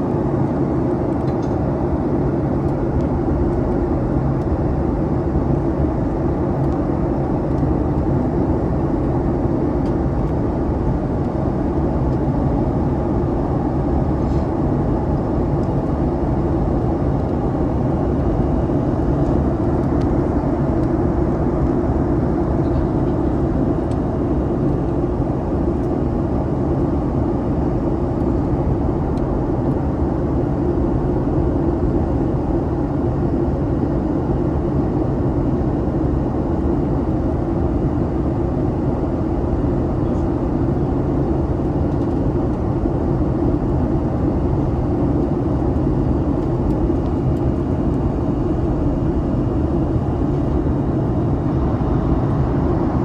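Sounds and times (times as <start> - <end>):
jet engine cabin drone: 0.0 - 53.0.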